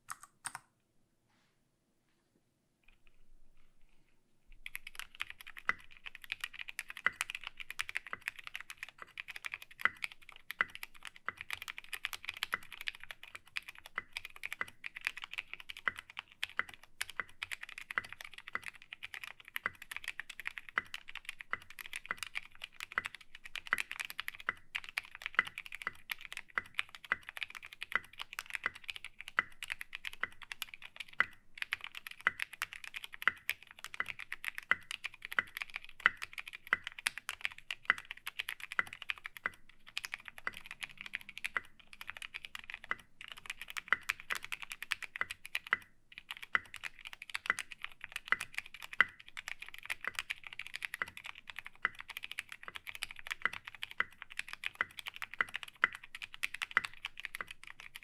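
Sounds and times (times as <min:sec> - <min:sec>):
mechanical keyboard typing: 0:00.0 - 0:00.7, 0:04.5 - 0:58.0.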